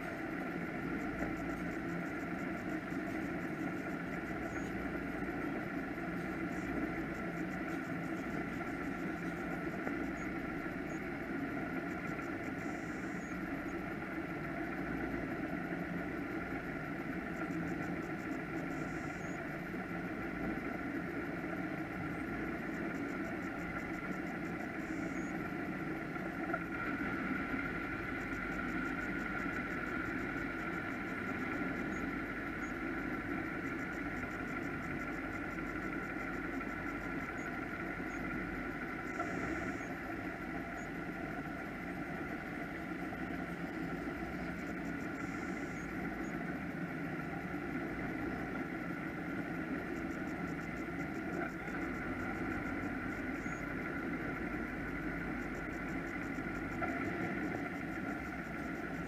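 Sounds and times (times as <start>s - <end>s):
powerboat engines idling: 0.0s - 59.0s.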